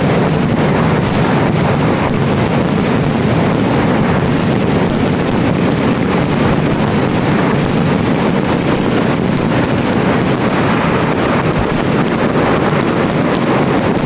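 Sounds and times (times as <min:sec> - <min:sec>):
dense fireworks barrage: 0:00.0 - 0:14.0.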